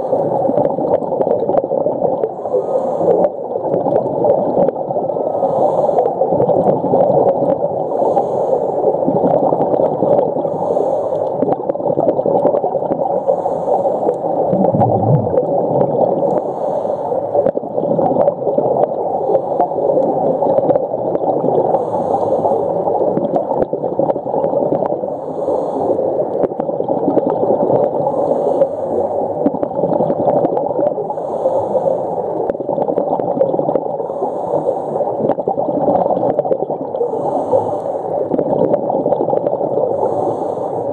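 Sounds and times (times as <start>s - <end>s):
underwater gurgling water: 0.0s - 40.9s.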